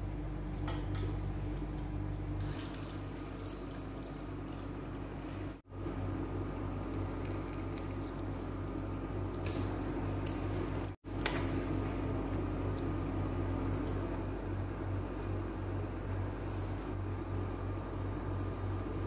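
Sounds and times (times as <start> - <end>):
electric cooktop humming: 0.0 - 19.0.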